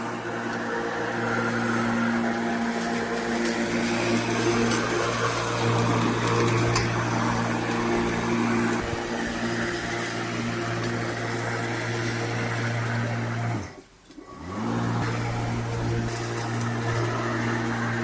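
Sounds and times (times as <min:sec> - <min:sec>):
lawnmower electric motor humming: 0:00.0 - 0:18.0.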